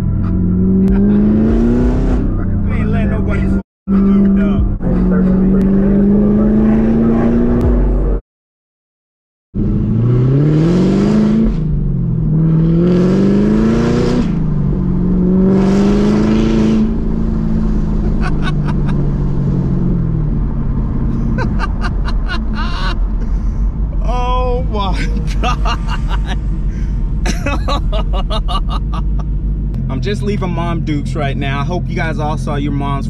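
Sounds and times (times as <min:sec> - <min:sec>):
car engine accelerating: 0:00.0 - 0:08.2, 0:09.6 - 0:33.0.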